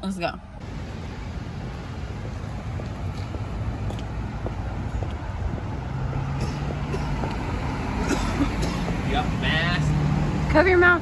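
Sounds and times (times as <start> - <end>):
city street traffic rumble: 0.0 - 11.0
vehicle engine hum: 0.4 - 11.0
wind buffeting microphone: 0.6 - 9.4.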